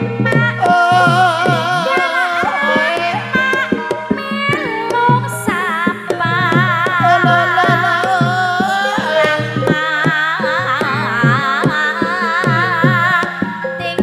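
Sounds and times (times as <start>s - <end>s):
high melody with vibrato: 0.0s - 14.0s.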